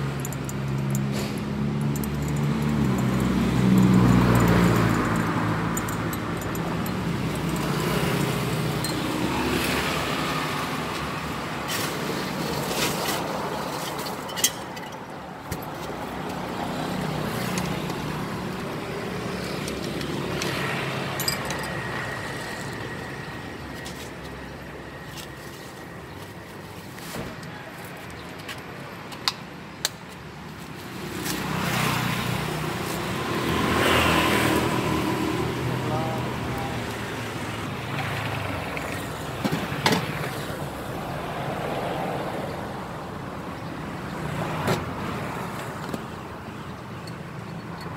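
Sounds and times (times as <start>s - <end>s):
street traffic passing: 0.0s - 47.9s.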